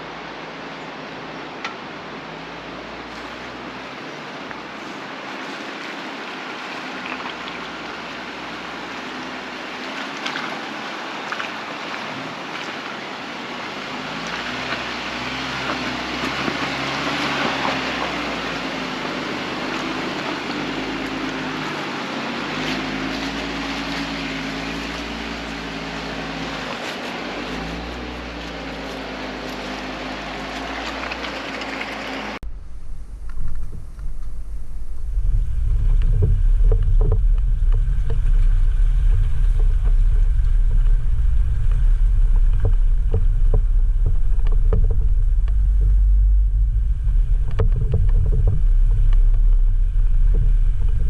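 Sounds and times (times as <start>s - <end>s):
car engine at low revs: 0.0s - 51.0s.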